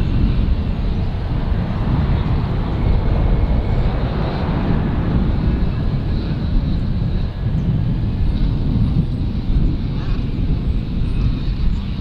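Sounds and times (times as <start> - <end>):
distant jet rolling on runway: 0.0 - 12.0
jet engine whine: 0.0 - 12.0.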